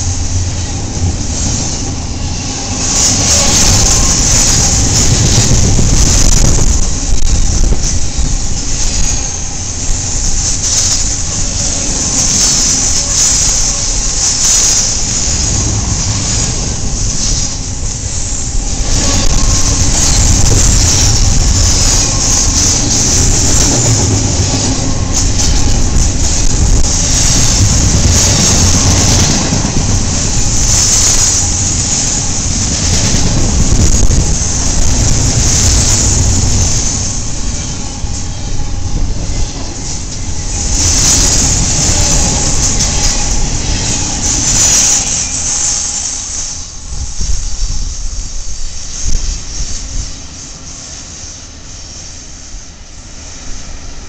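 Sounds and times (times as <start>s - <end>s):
hiss: 0.0s - 54.0s
train wheels rumbling on rail: 0.0s - 54.0s.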